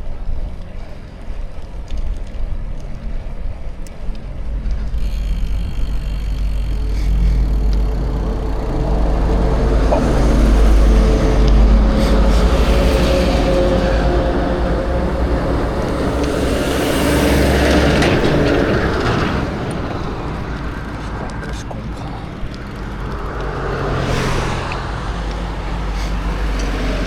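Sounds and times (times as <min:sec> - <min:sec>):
tyres rolling on road: 0:00.0 - 0:27.0
wind rumbling on microphone: 0:00.0 - 0:27.0.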